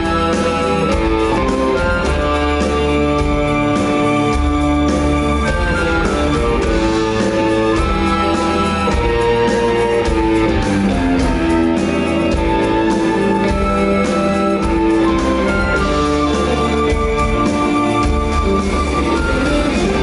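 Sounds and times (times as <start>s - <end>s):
bass line: 0.0s - 20.0s
drums: 0.0s - 20.0s
held melodic notes: 0.0s - 20.0s.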